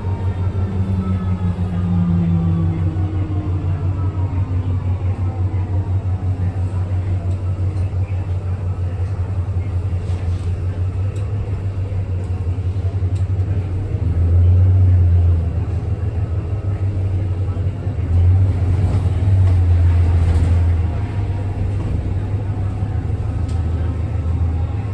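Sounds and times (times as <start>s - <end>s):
bus pulsing low drone: 0.0s - 24.9s.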